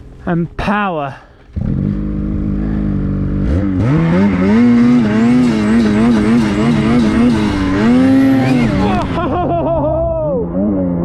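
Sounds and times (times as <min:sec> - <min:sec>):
snowmobile engine revving: 0:01.6 - 0:11.0.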